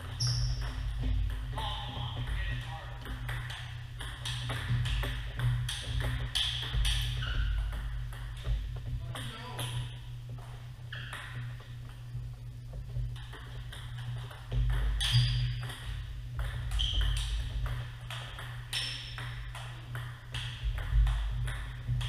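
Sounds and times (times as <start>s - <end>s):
table tennis balls clicking: 0.0s - 12.1s, 12.7s - 22.0s
steady low hum: 0.0s - 22.0s.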